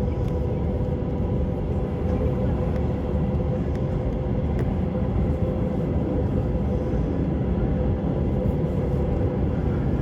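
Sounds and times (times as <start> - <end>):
low rumble inside moving vehicle: 0.0 - 10.0.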